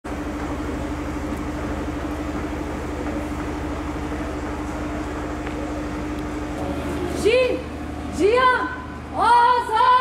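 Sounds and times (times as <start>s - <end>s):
mechanical hum: 0.1s - 10.0s.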